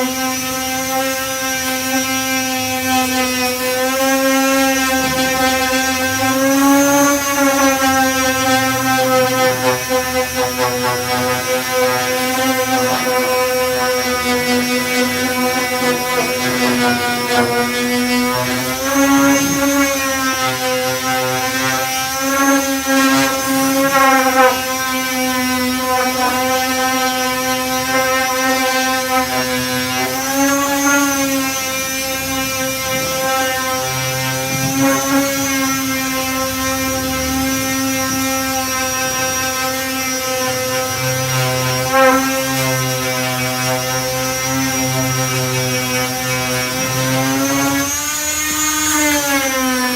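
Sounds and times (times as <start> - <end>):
electric disc sander: 0.0 - 49.9.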